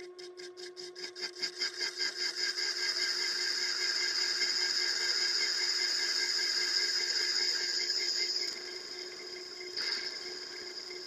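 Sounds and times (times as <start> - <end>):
lathe cutting metal whine: 1.5 - 11.0.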